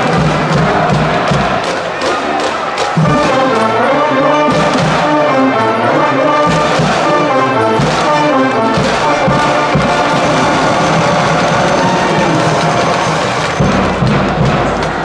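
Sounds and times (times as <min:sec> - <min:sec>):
brass band playing a fight song: 0:00.0 - 0:15.0.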